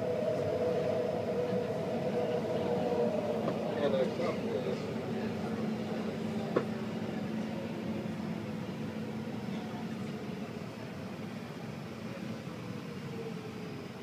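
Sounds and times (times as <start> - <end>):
train running gear rumble: 0.0 - 12.8.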